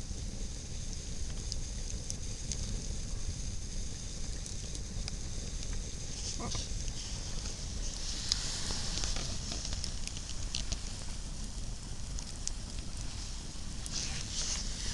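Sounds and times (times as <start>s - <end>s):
campfire crackling: 0.0s - 14.9s.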